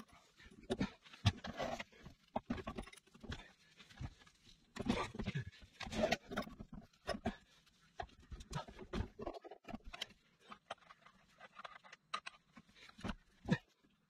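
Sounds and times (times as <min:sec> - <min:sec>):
metal clicks and scrapes: 0:00.0 - 0:13.6.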